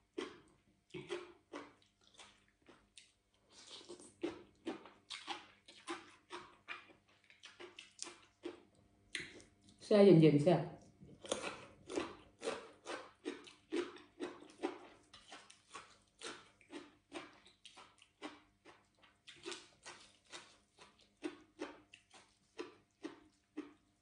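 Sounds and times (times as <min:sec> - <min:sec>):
chewing crisp food: 0:00.0 - 0:09.8, 0:10.8 - 0:24.0.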